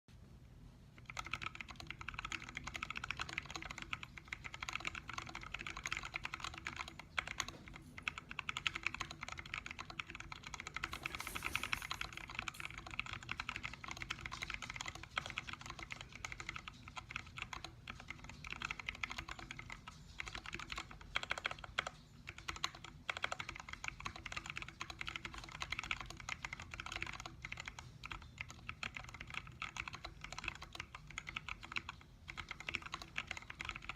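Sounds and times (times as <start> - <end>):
mechanical keyboard typing: 1.0 - 33.9.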